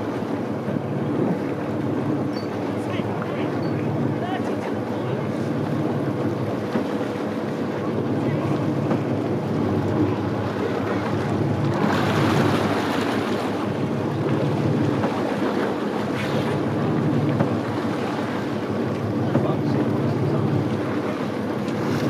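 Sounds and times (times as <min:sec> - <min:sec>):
motorboat engine running: 0:00.0 - 0:22.0
water noise: 0:00.0 - 0:22.0.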